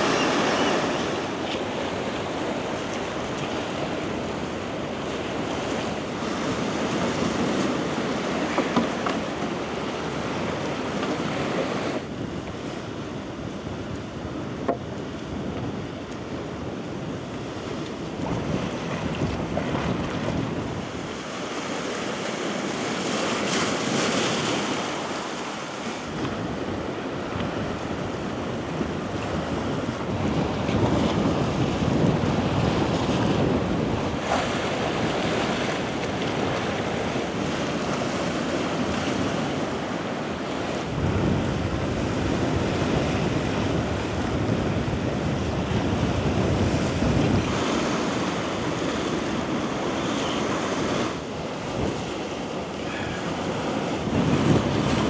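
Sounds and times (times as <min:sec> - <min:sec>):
wind buffeting microphone: 0:00.0 - 0:24.9, 0:26.0 - 0:55.0
sea waves washing in: 0:00.0 - 0:55.0.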